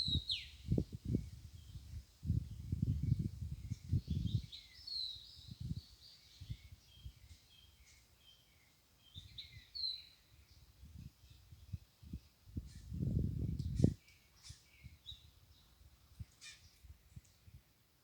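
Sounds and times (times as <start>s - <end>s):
small birds chirping: 0.0s - 17.7s.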